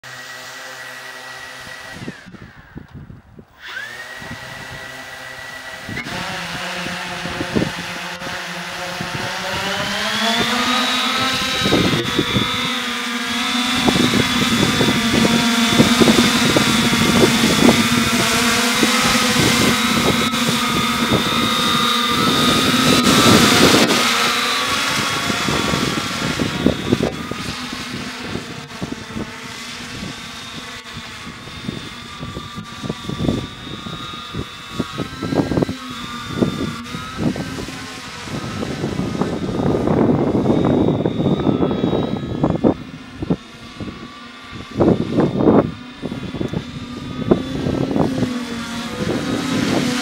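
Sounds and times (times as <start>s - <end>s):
drone propellers humming: 0.0s - 50.0s
wind buffeting microphone: 1.6s - 50.0s.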